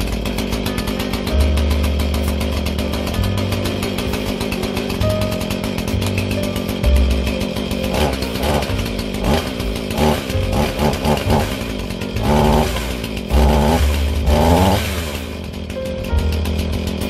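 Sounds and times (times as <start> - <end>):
chainsaw idling and revving: 0.0 - 17.0.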